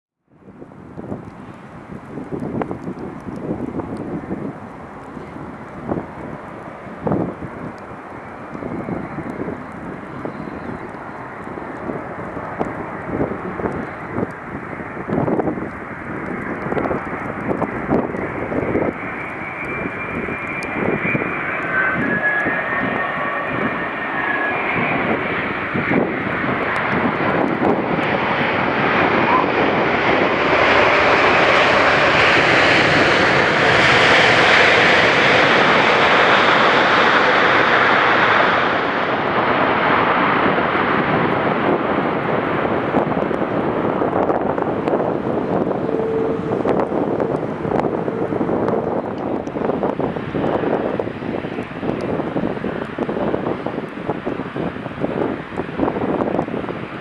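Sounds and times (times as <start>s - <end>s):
jet engines roaring: 0.4s - 57.0s.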